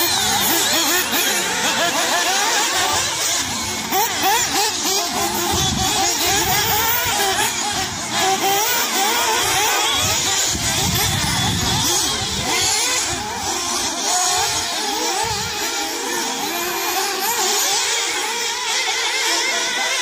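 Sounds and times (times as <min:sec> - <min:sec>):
model car engines whining: 0:00.0 - 0:20.0.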